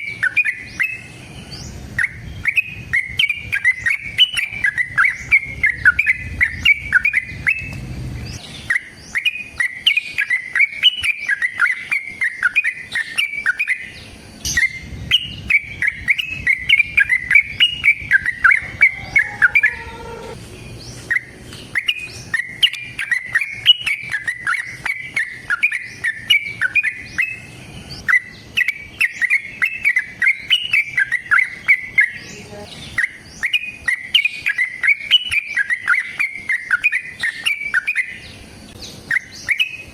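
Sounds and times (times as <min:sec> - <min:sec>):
bulbul singing chattering notes: 0:00.0 - 0:38.4.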